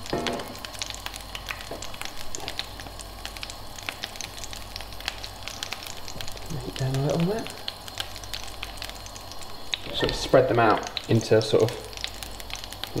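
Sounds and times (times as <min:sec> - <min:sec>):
batter sizzling in oil: 0:00.0 - 0:13.0.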